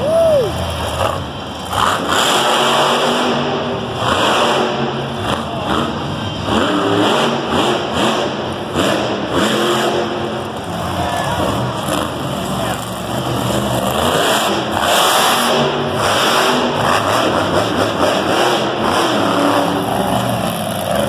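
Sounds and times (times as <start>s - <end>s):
monster truck engine revving: 0.1s - 21.0s.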